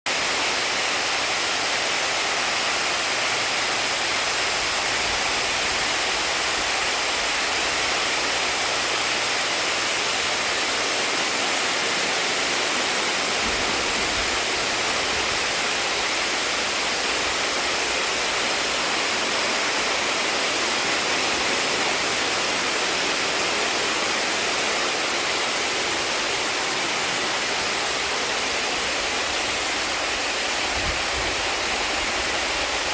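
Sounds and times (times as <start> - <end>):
fountain water splashing: 0.1 - 32.9.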